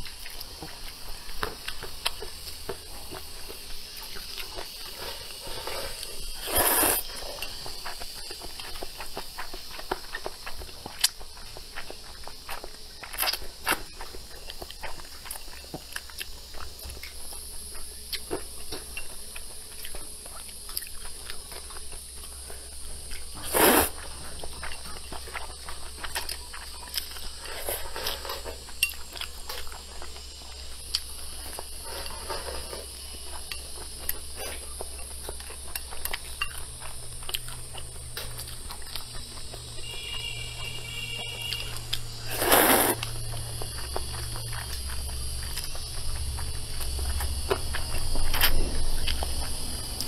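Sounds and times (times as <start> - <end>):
slurping and chewing noodles: 0.0 - 50.0.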